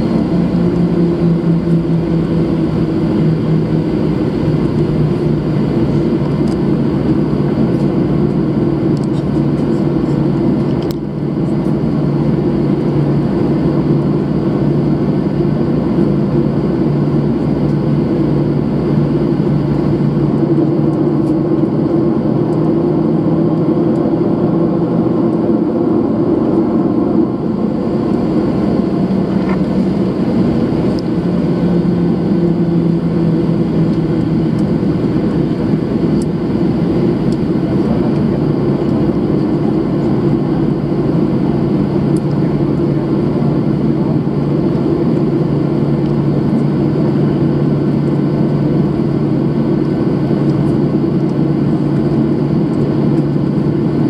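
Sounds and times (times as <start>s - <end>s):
jet engines droning in cabin: 0.0s - 54.0s.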